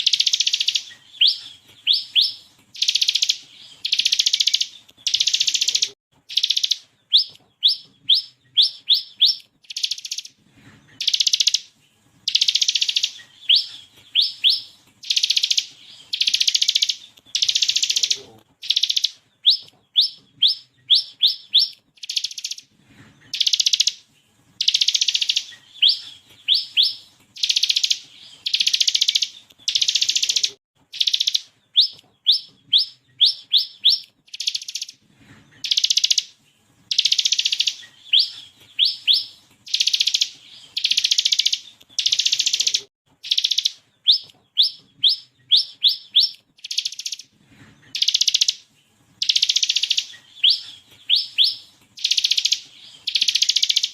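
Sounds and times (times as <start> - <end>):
bird whistles: 0.0 - 10.3, 12.3 - 18.0, 18.6 - 22.6, 23.3 - 24.0, 24.6 - 35.0, 36.9 - 47.2, 47.9 - 48.6, 49.2 - 53.9.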